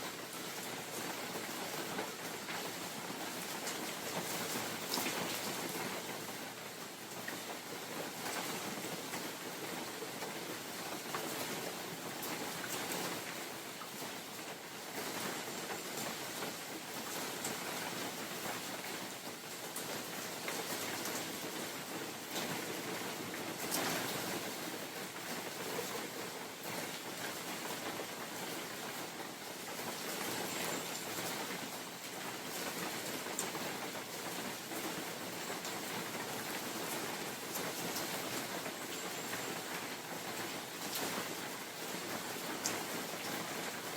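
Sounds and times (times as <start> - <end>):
rain hissing in forest: 0.0 - 43.9.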